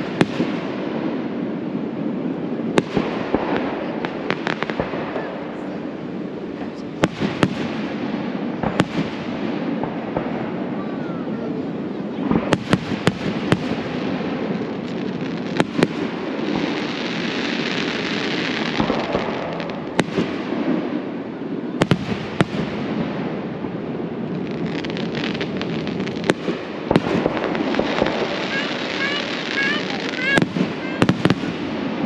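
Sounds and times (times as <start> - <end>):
fireworks bursting with sharp bangs: 0.0 - 32.0
fireworks crackling and hissing: 0.0 - 32.0.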